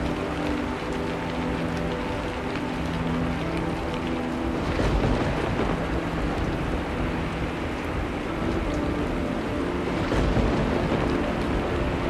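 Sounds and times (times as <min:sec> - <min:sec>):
low thunder rumbling: 0:00.0 - 0:12.0
steady rain falling: 0:00.0 - 0:12.0.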